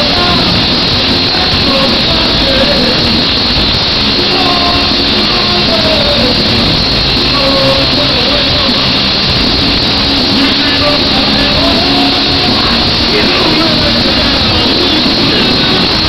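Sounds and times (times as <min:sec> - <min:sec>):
distorted rock band playing: 0:00.0 - 0:16.0
person singing: 0:00.0 - 0:16.0.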